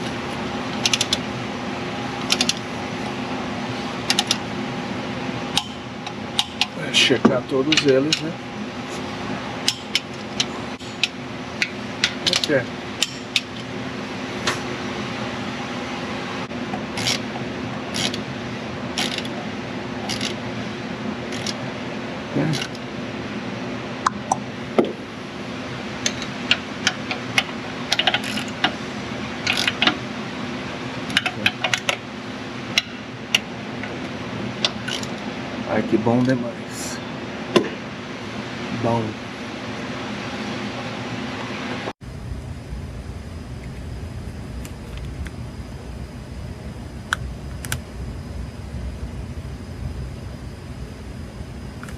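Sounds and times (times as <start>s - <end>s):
steady hum: 0.0s - 51.9s.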